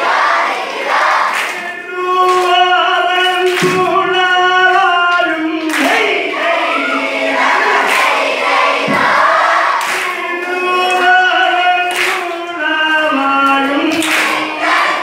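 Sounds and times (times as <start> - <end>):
crowd chanting and shouting: 0.0 - 15.0
single voice singing: 0.9 - 15.0.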